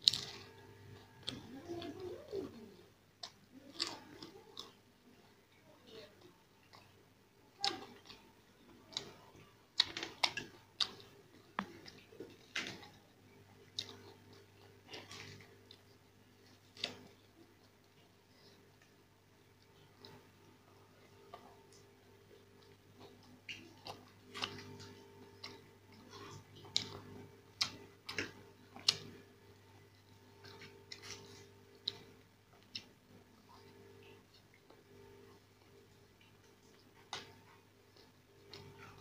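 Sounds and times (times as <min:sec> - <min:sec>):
faint steady hum: 0:00.0 - 0:39.0
person chewing crispy food: 0:00.0 - 0:39.0.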